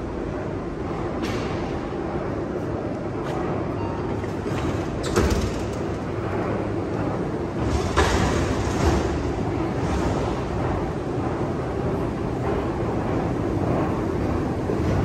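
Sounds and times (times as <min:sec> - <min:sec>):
station concourse rumble: 0:00.0 - 0:15.0.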